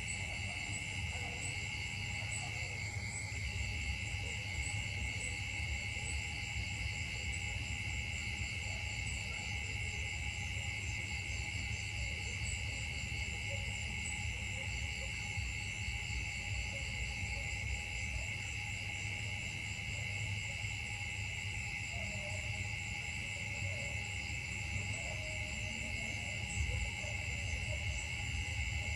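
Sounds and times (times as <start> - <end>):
insects buzzing: 0.0 - 28.9.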